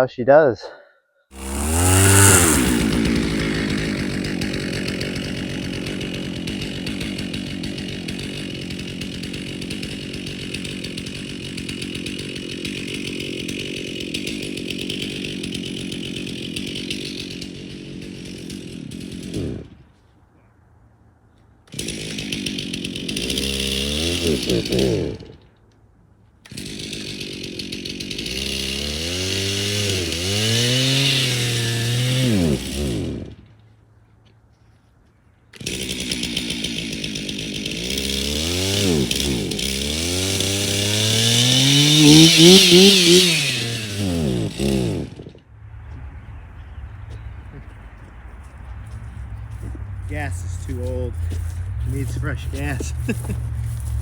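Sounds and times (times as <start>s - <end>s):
chainsaw running and revving: 1.3s - 20.0s, 21.7s - 25.6s, 26.4s - 33.5s, 35.6s - 45.5s, 48.6s - 54.0s.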